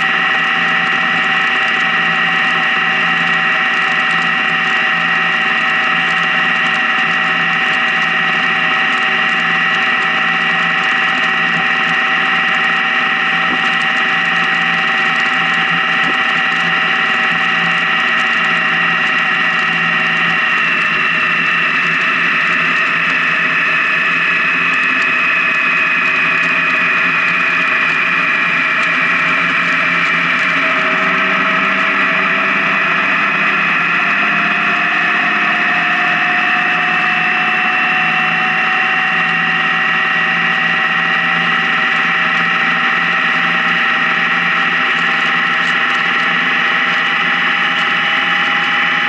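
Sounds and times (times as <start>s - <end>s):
motorcycle engine and drivetrain whine: 0.0s - 49.0s.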